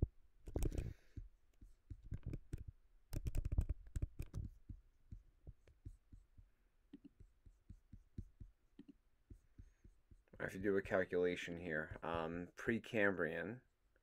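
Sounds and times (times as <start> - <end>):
computer clicks and soft thumps: 0.0 - 12.6.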